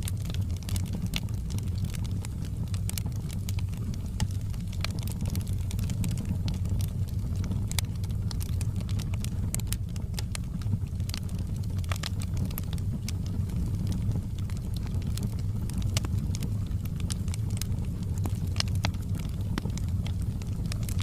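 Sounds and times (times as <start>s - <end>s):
fire crackling and popping: 0.0s - 21.0s
fire low rumble: 0.0s - 21.0s.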